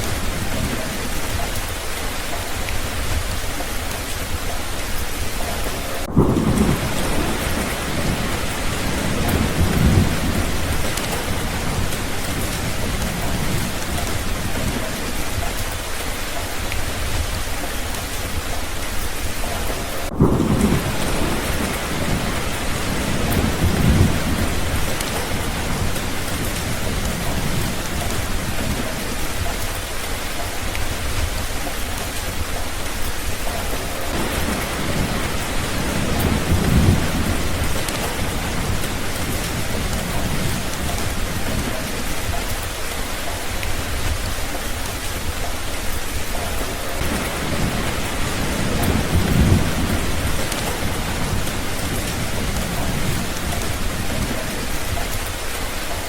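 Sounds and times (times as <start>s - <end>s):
rain falling: 0.0s - 56.0s
thunder rumbling: 0.0s - 56.0s.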